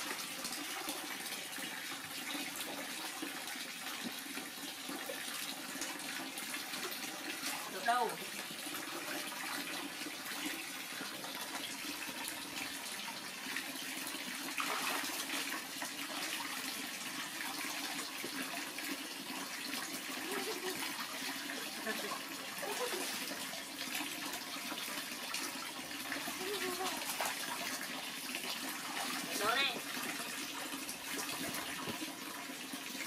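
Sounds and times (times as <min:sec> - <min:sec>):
splashing water: 0:00.0 - 0:32.9
water pouring into pool: 0:00.0 - 0:33.0.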